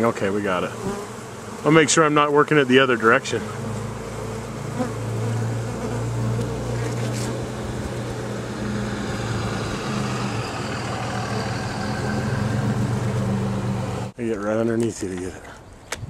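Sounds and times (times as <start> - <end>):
honeybees buzzing: 0.0 - 14.2.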